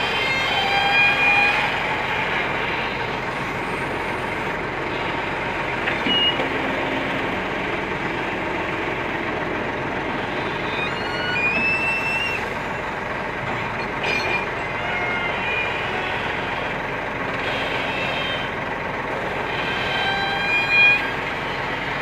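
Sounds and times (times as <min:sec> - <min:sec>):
short high squeals: 0:00.0 - 0:07.5, 0:09.4 - 0:22.0
excavator engine running: 0:00.0 - 0:22.0.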